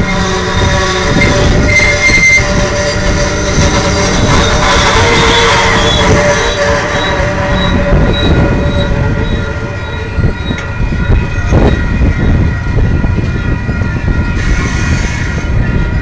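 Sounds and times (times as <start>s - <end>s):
high wheel squeal: 0.0s - 16.0s
train wheels rumbling on rails: 0.0s - 16.0s.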